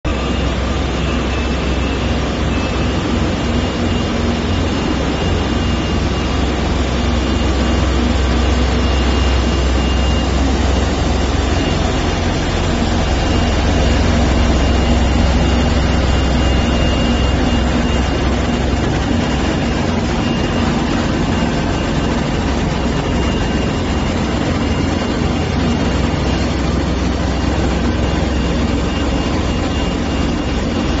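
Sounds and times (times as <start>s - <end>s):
faint high whine: 0.1s - 31.0s
floor grinder running: 0.1s - 31.0s.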